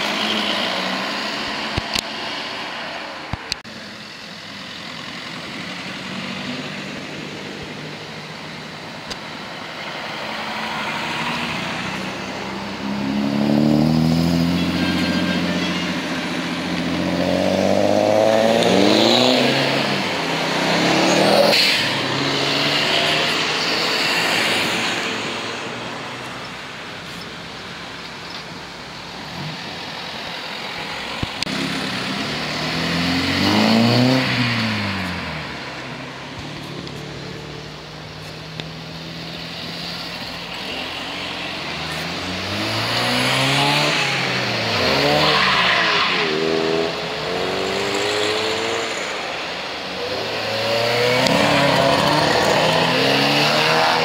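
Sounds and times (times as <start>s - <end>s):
cars driving past: 0.0s - 54.0s
car engine revving: 4.7s - 27.1s, 30.8s - 54.0s.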